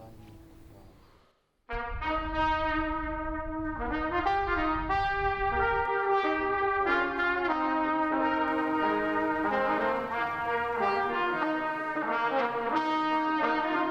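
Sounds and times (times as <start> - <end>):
brass ensemble playing chords: 1.7 - 13.9.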